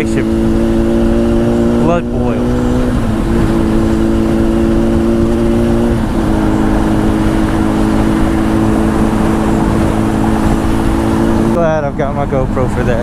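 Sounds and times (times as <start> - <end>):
low wind rumble: 0.0 - 13.0
motorcycle engine while riding: 0.0 - 13.0.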